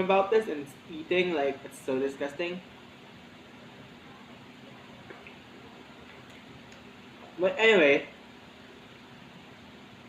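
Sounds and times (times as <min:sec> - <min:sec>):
faint hum: 0:00.0 - 0:10.0
room tone hiss: 0:00.0 - 0:10.0.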